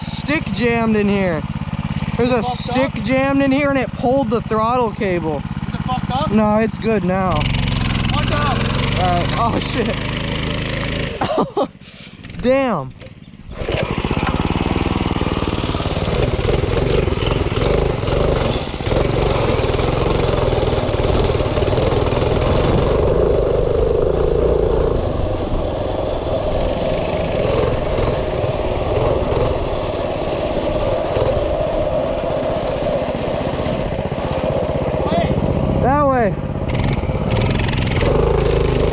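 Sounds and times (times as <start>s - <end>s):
minibike engine at high revs: 0.0s - 38.9s.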